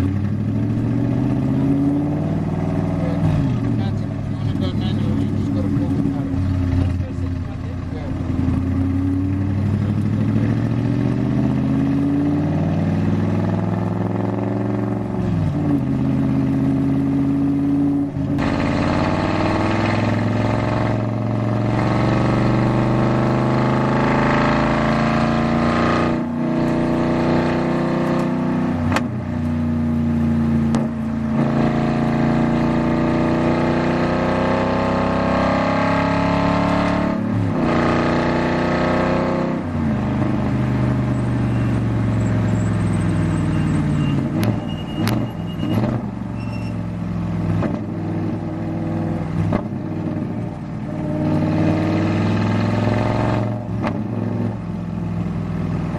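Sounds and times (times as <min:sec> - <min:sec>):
race car engine accelerating: 0:00.0 - 0:54.7.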